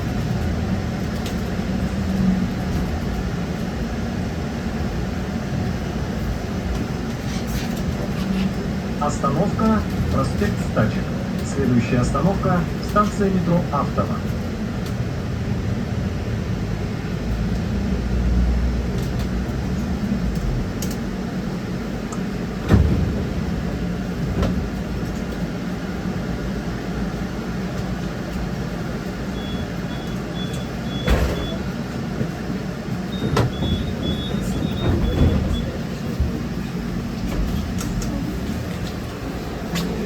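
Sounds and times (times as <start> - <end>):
trolleybus low rumble: 0.0 - 40.0.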